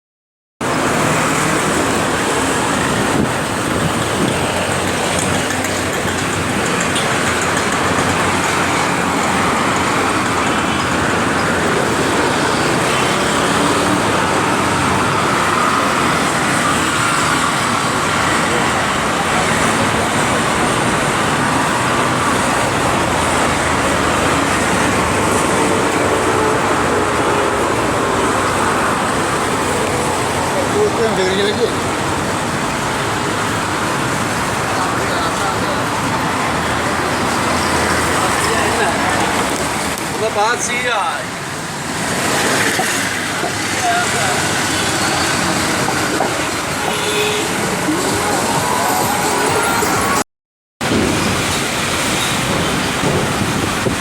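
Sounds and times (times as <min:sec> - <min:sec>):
city street traffic: 0:00.6 - 0:54.0.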